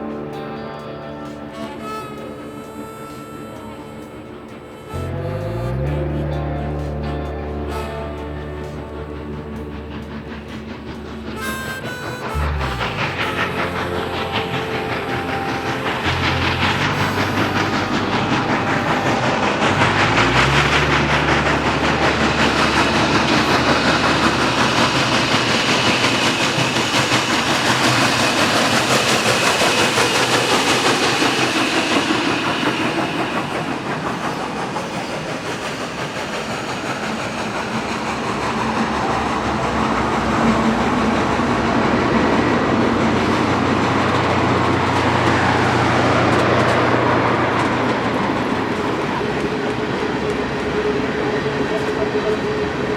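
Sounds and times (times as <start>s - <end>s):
low engine hum: 0.0s - 52.9s
train wheels rumbling and clattering: 0.0s - 52.9s.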